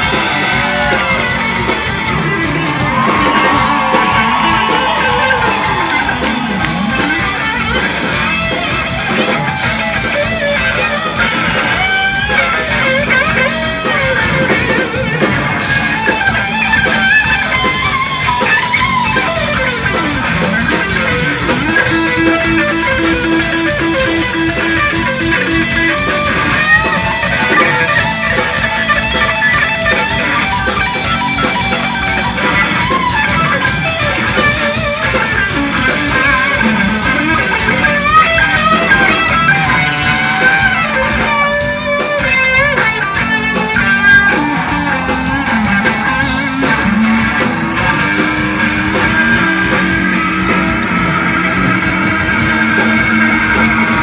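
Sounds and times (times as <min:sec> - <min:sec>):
drums: 0:00.0 - 0:54.0
electric guitar solo: 0:00.0 - 0:54.0.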